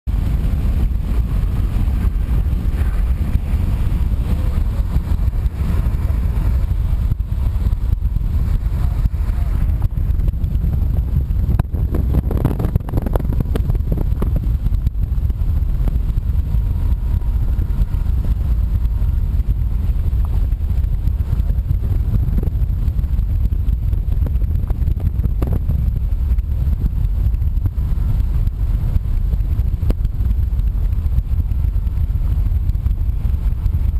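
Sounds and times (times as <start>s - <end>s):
car driving on highway: 0.1s - 33.9s.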